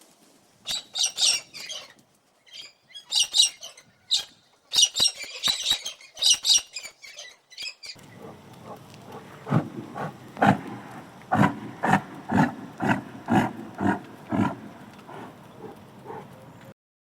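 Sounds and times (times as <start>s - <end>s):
animal squawking calls: 0.7s - 1.9s, 2.5s - 16.6s.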